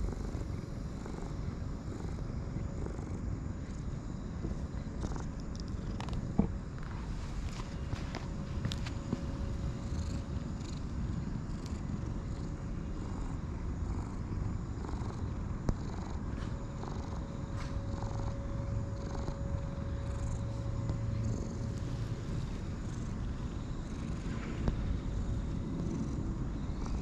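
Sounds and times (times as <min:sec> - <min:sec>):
cat purring: 0:00.0 - 0:27.0.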